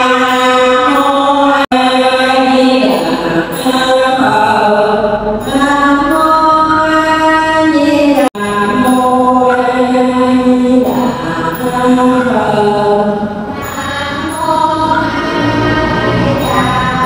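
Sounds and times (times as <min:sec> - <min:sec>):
monks chanting: 0:00.0 - 0:17.0.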